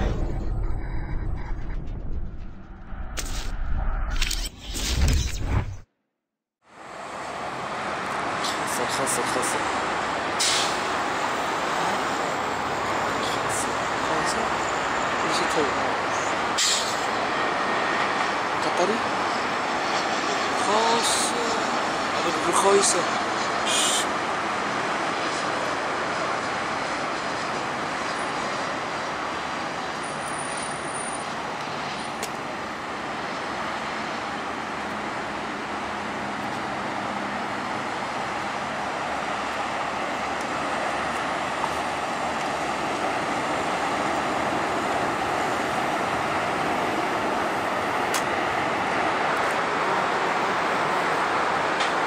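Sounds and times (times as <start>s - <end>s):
jet airliner engines rushing: 6.7s - 52.0s.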